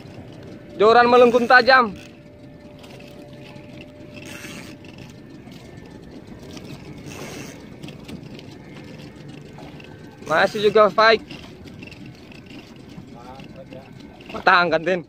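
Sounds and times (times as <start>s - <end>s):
fishing reel clicking: 0.0s - 15.0s
sea noise: 0.0s - 15.0s
wind: 0.0s - 15.0s.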